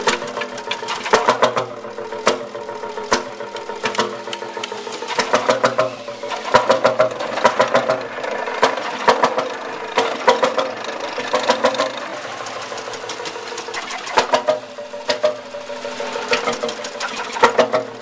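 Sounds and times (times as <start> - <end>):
engine clattering: 0.0 - 18.0
single-cylinder engine firing knocks: 0.0 - 18.0.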